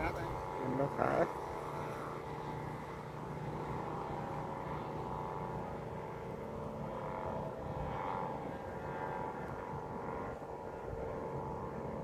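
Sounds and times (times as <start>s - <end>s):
kite flutes droning chord: 0.0s - 12.0s
low wind rumble: 0.0s - 12.0s.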